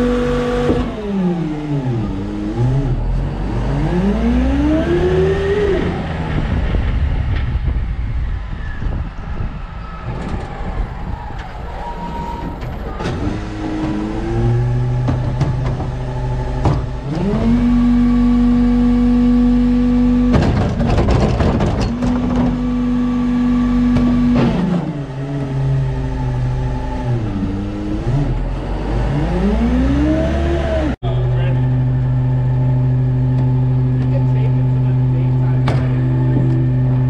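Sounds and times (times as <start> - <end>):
garbage truck engine revving: 0.0 - 7.8, 11.6 - 37.0.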